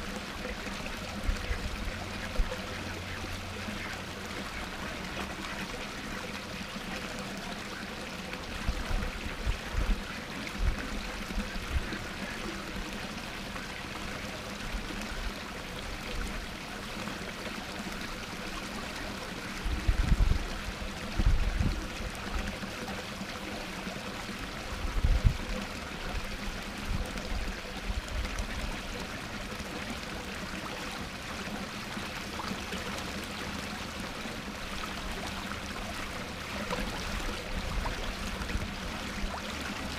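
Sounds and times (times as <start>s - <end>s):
garden waterfall splashing over rocks: 0.0s - 39.9s.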